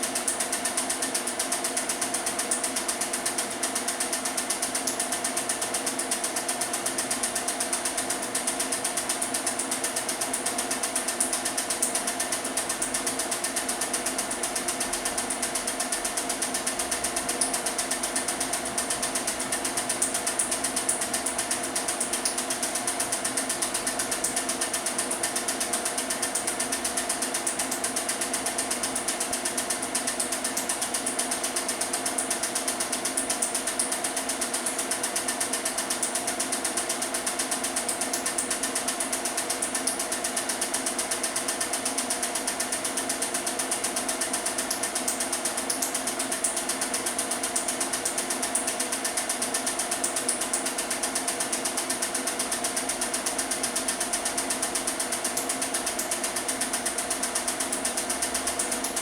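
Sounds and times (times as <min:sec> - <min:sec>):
film projector clattering: 0:00.1 - 0:59.0.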